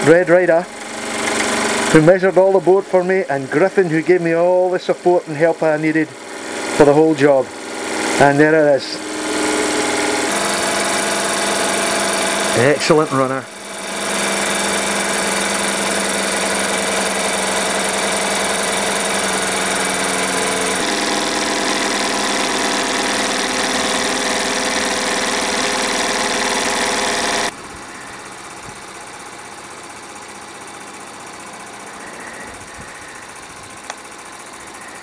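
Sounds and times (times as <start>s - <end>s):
toy steam engine running: 0.0s - 35.0s.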